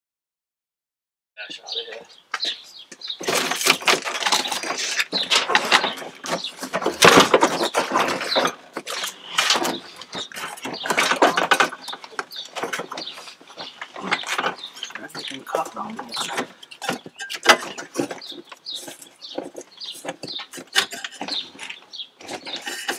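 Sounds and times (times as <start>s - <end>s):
plastic dashboard creaking and rattling: 3.0s - 22.9s.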